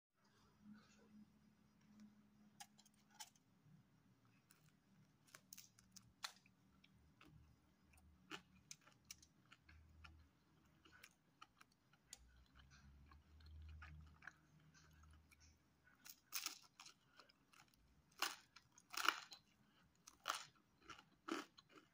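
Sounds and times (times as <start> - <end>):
faint chewing: 4.2 - 21.9.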